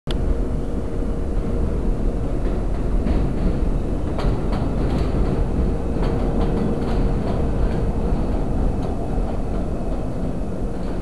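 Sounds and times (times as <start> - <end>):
subway train rumble: 0.1 - 11.0
wheels clicking over rail joints: 1.4 - 11.0.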